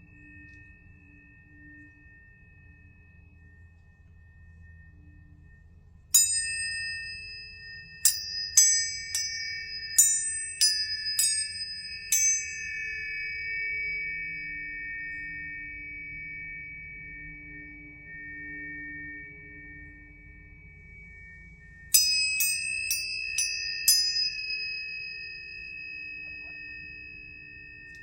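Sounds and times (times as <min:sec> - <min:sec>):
high ringing tones: 0:00.0 - 0:28.0
tuning forks struck: 0:00.0 - 0:28.0.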